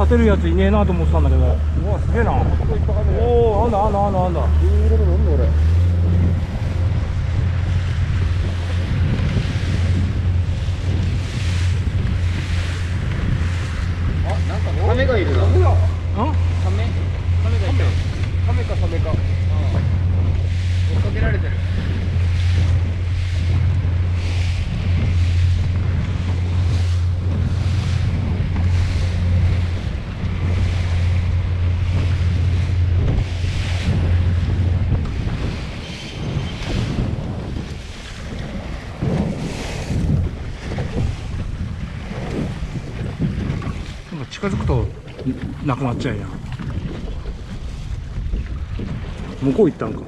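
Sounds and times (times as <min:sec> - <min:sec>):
boat engine running: 0:00.0 - 0:50.0
sea noise: 0:00.0 - 0:50.0
waves washing: 0:00.0 - 0:50.0
wind on microphone: 0:00.0 - 0:50.0.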